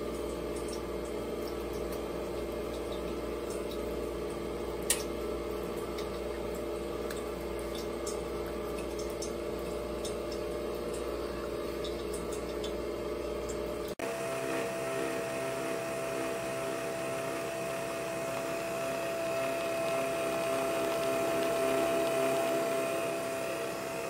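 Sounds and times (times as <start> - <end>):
liquid dripping: 0.0 - 14.0, 15.4 - 24.0
coffee machine pump hum: 0.0 - 24.0.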